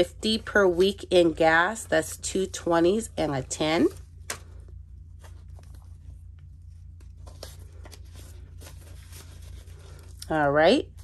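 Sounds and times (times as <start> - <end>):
steady low hum: 0.0 - 11.0
banknotes rustling: 0.3 - 10.9.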